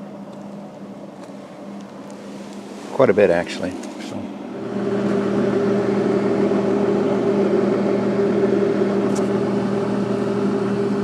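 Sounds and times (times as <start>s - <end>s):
welder humming: 1.4s - 11.0s.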